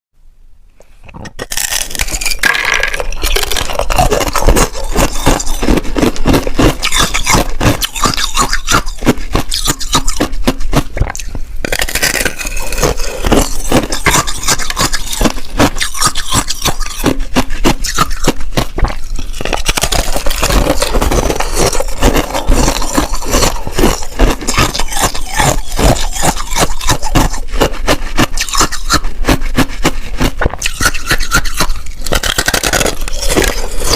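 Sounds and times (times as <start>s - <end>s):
shaved ice crunching: 1.4s - 10.3s, 11.6s - 33.9s.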